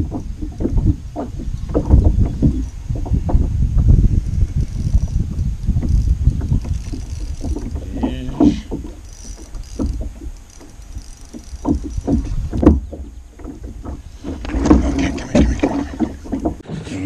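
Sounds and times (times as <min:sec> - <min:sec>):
fishing gear knocking in kayak: 0:00.0 - 0:16.6.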